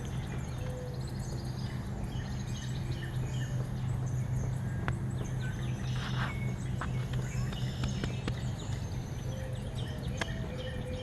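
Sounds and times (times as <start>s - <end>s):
birds chirping and trilling: 0.0s - 11.0s
low hum: 0.0s - 11.0s.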